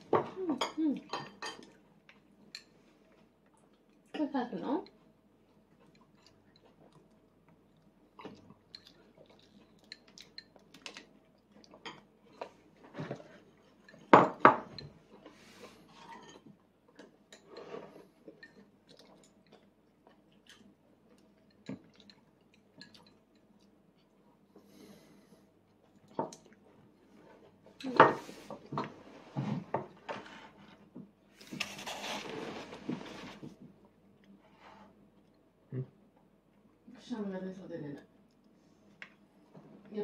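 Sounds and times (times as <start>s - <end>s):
soft chewing: 0.2s - 4.2s, 4.8s - 14.1s, 14.7s - 32.1s, 32.8s - 36.9s, 38.0s - 39.9s.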